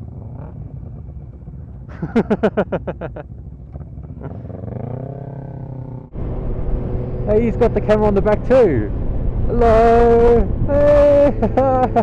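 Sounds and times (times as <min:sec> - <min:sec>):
motorcycle engine revving: 0:00.0 - 0:12.0
motorcycle engines idling: 0:00.0 - 0:12.0.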